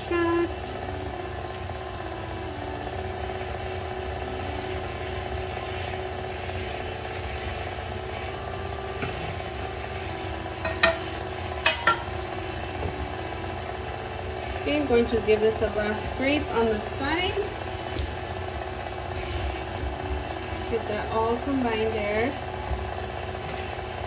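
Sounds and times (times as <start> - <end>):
stand mixer whisking batter: 0.0 - 24.0.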